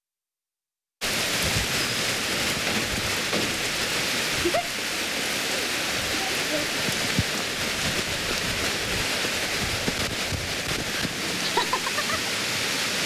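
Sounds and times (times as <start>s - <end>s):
heavy rain on pavement: 1.0s - 13.0s.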